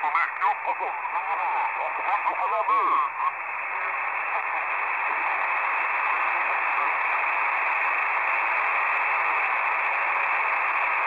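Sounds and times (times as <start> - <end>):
shortwave radio static hiss: 0.0 - 11.0.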